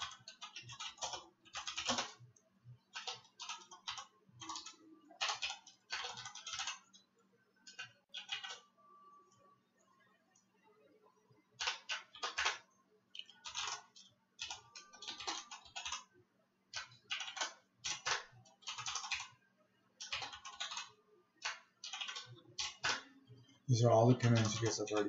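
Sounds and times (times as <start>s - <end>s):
keyboard typing: 0.0s - 9.5s, 11.6s - 16.1s, 16.7s - 19.4s, 20.0s - 23.3s, 23.9s - 25.0s.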